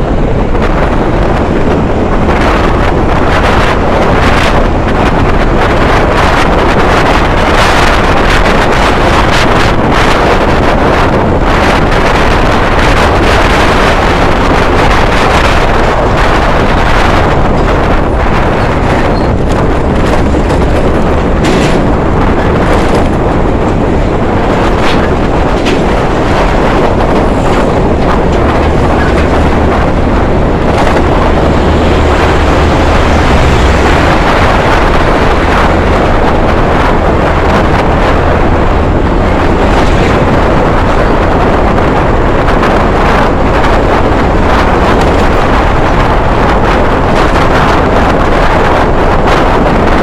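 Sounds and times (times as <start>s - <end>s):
truck passing rumble: 0.0s - 50.0s
wind and road noise: 0.0s - 50.0s.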